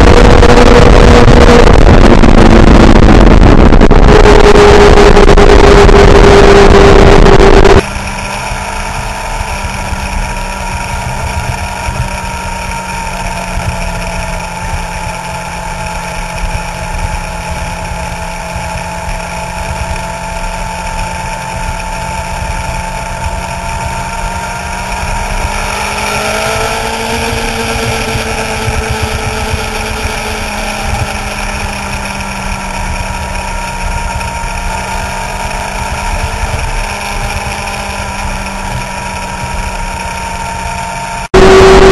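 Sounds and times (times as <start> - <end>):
constant rush of noise: 0.0 - 41.9
motorcycle engine cruising: 0.0 - 41.9.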